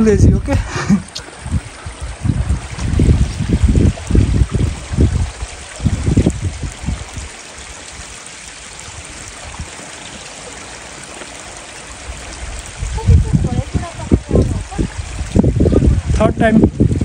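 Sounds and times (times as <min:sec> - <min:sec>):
wind on microphone: 0:00.0 - 0:10.1, 0:11.4 - 0:17.0
stream rushing: 0:00.0 - 0:17.0.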